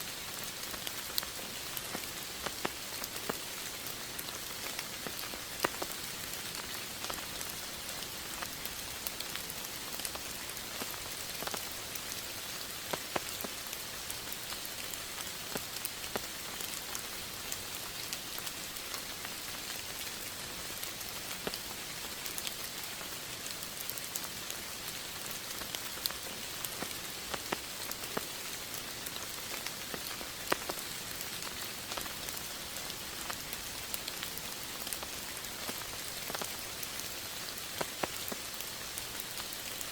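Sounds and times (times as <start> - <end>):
raindrops ticking: 0.2 - 39.9.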